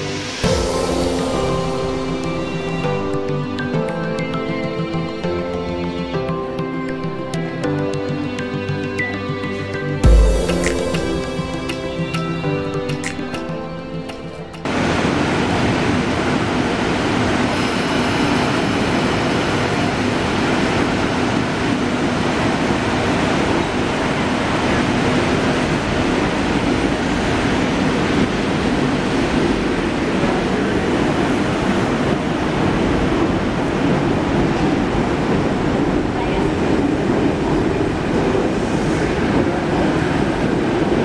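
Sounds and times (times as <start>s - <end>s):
electric train rolling past: 0.0s - 41.0s.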